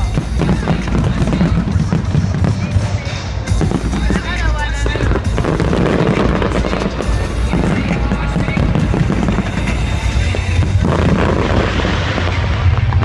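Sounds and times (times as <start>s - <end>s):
fireworks bursting and crackling: 0.0s - 13.0s
loud music: 0.0s - 13.0s.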